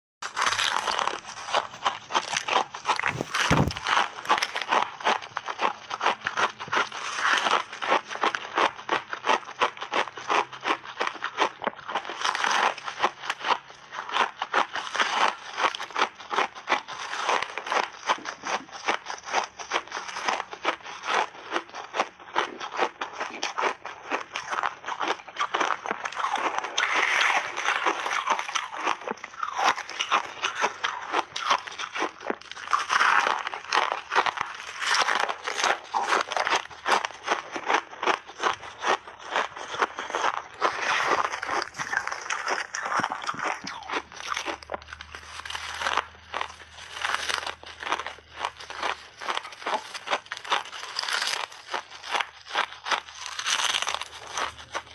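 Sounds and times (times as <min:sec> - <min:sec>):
ice being chewed: 0:00.2 - 0:54.9.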